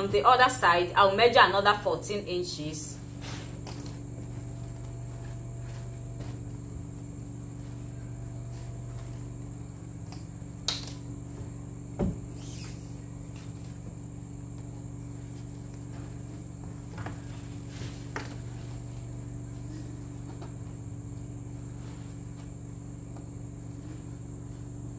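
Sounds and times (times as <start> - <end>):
steady low hum: 0.0 - 24.9
thin high whine: 0.0 - 24.9.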